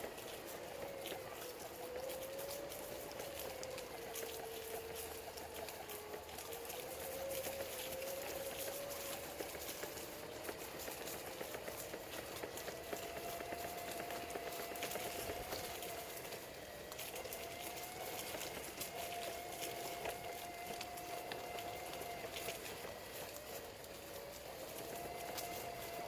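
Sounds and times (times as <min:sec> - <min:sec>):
footsteps crunching on leaves: 0:00.0 - 0:26.0.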